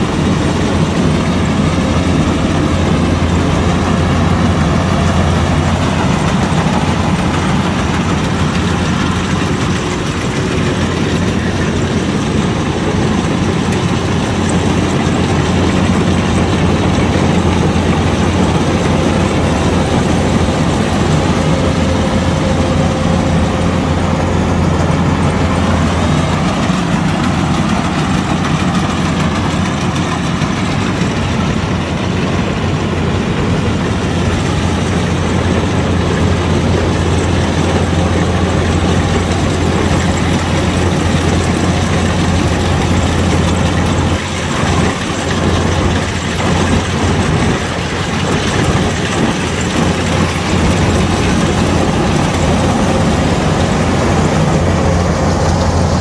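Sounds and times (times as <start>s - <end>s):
diesel engine hum: 0.0s - 56.0s
harvesting gear working: 0.0s - 56.0s.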